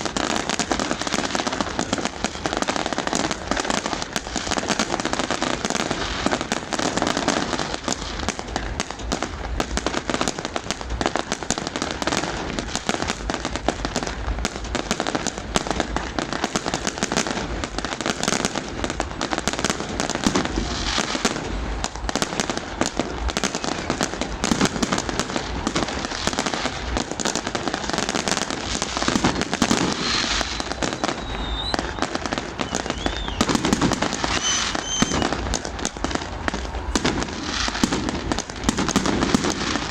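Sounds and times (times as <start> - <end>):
firework whistles: 0.0 - 39.9
fireworks bangs and crackles: 0.0 - 39.9.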